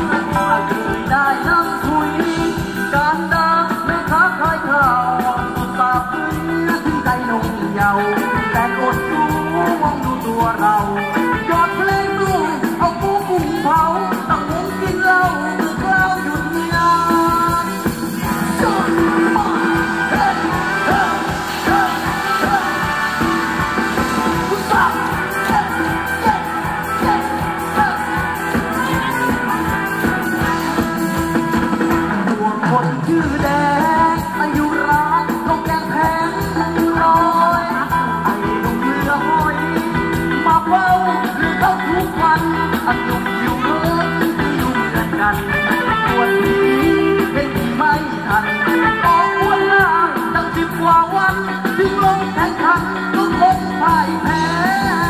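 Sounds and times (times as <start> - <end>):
live band playing dance music: 0.0 - 55.0.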